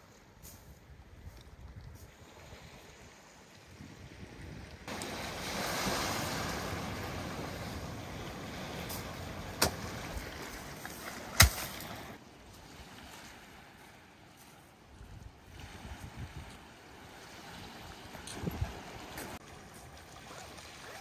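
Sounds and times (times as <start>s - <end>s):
small waves on a pebble shore: 2.0s - 21.0s.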